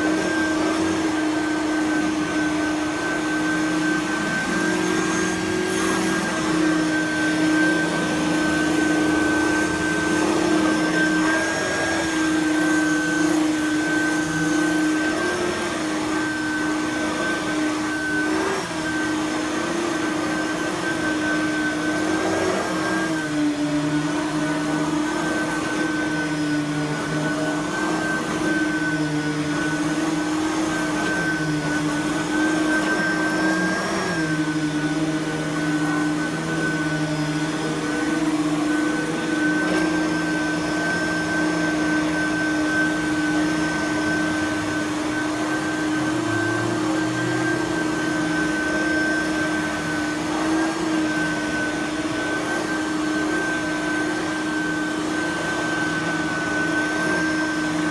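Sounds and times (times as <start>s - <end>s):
upright vacuum running: 0.0s - 57.9s.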